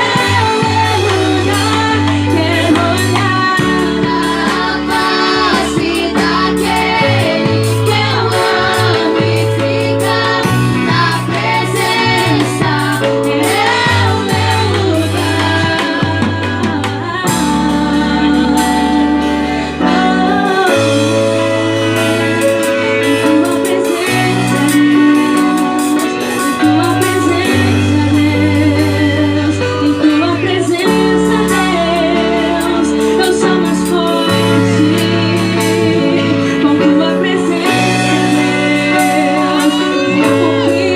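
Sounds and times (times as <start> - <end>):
worship band playing: 0.0 - 40.9.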